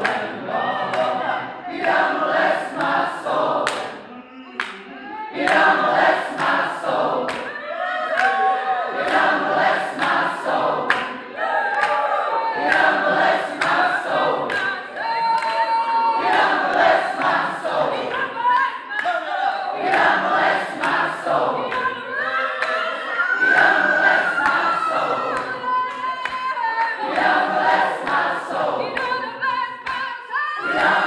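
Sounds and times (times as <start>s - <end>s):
hand claps on the beat: 0.0s - 1.2s, 1.8s - 4.0s, 4.6s - 4.8s, 5.4s - 12.0s, 12.6s - 19.2s, 19.8s - 22.0s, 22.6s - 22.9s, 23.5s - 31.0s
choir singing gospel a cappella: 0.0s - 31.0s.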